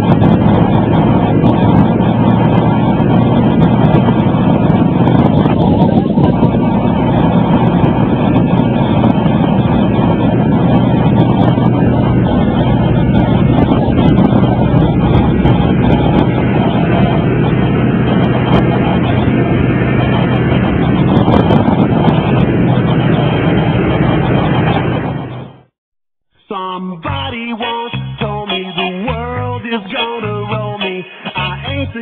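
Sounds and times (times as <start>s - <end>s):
plane engine droning: 0.0s - 25.8s
wind noise: 0.0s - 25.8s.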